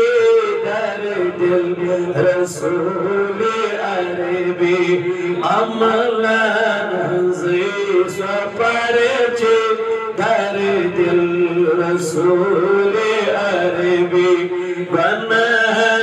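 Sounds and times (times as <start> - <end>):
man chanting unaccompanied: 0.0 - 16.0.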